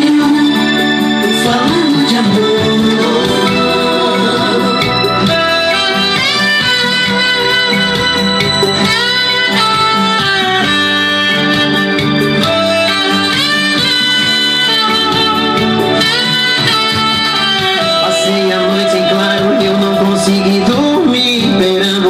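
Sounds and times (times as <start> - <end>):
guitar sliding held notes: 0.0 - 22.0
steady bass line: 0.0 - 22.0.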